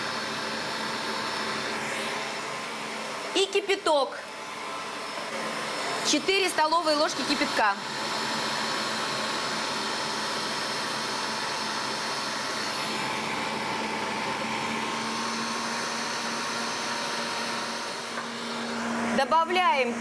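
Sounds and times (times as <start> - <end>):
electric mixer running: 0.0 - 20.0.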